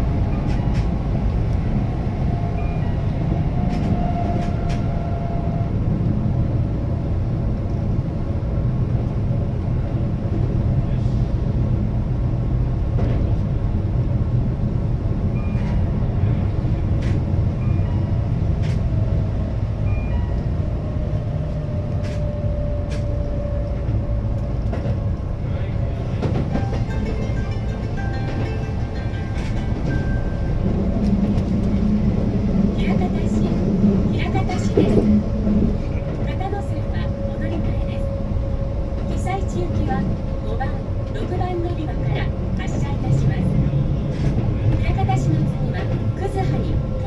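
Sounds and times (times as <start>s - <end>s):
wheels rumbling on rail: 0.0s - 47.0s.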